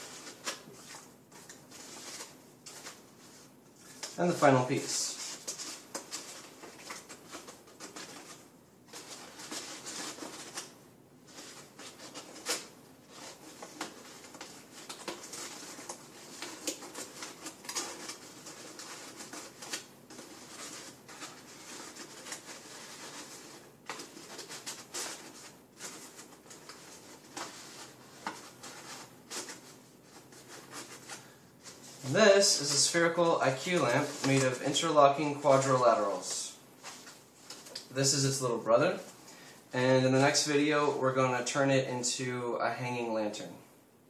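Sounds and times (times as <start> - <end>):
paper rustling and crinkling: 0.0 - 39.2.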